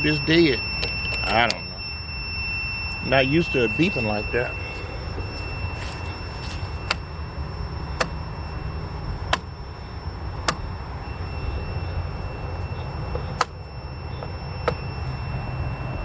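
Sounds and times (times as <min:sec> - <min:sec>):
short sharp beeps: 0:00.0 - 0:16.0
steady low rumble: 0:00.0 - 0:16.0.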